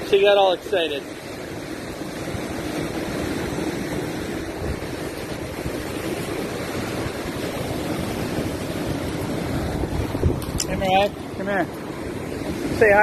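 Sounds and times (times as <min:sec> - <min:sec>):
surf breaking on rocks: 0:00.0 - 0:13.0.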